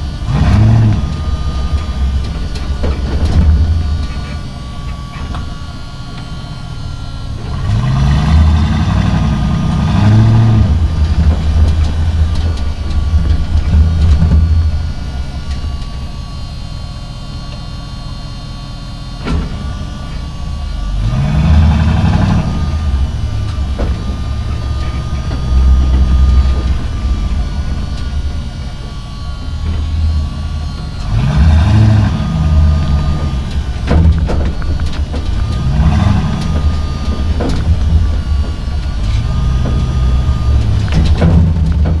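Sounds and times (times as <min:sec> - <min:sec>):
diesel truck engine revving: 0:00.0 - 0:42.0.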